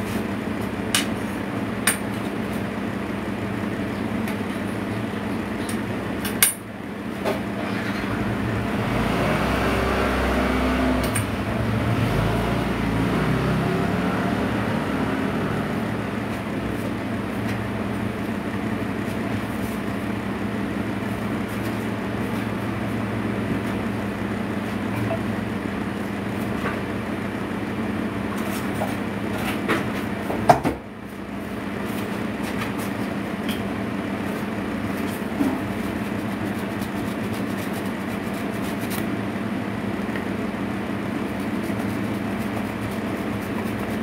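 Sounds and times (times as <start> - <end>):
low machine hum: 0.0 - 44.0.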